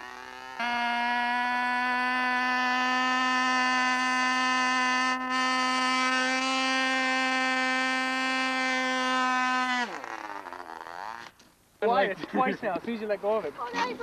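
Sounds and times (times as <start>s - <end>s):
model airplane engine buzzing: 0.0s - 11.5s.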